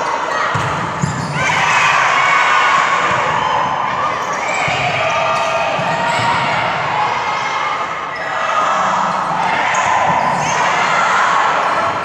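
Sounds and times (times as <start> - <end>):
crowd noise: 0.0 - 12.0
people shouting: 1.2 - 12.0.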